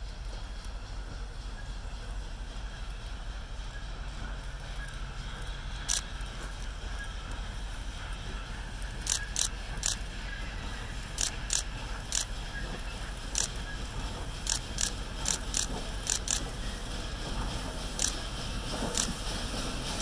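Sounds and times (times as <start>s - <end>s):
steam locomotive exhaust chuffs: 0.0s - 20.0s.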